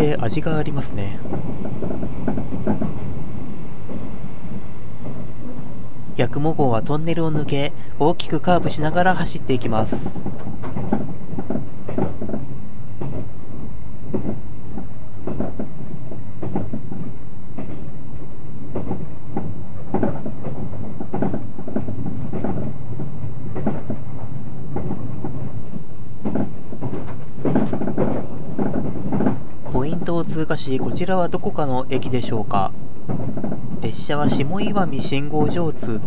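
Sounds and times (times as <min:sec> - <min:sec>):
train running rumble: 0:00.0 - 0:36.0
wheels clacking over rail joints: 0:00.0 - 0:36.0.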